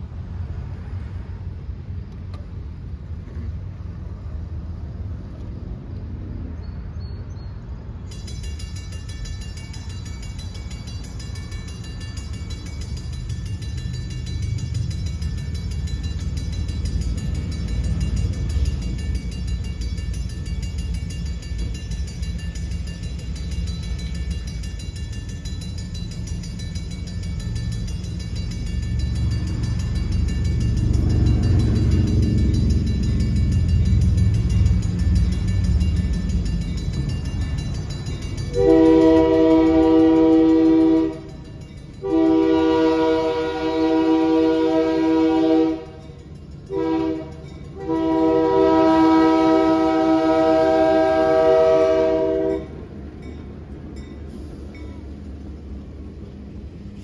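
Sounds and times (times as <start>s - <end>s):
railroad crossing bell ringing: 6.6s - 57.0s.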